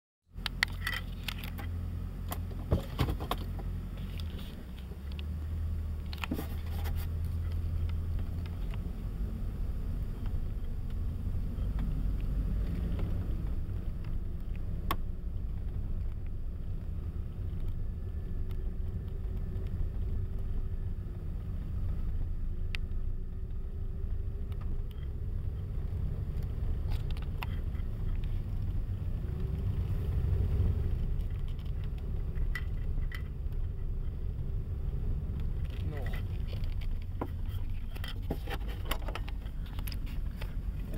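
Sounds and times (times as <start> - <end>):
car engine and road rumble: 0.2 - 40.9.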